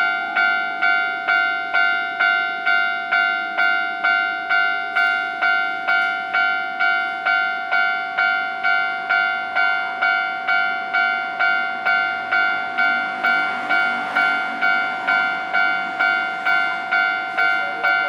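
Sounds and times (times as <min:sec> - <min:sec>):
level crossing bell clanging: 0:00.0 - 0:18.0.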